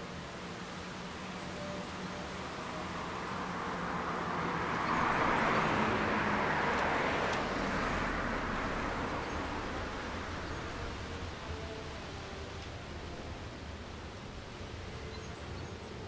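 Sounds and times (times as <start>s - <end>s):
vehicle passing: 1.5s - 15.3s.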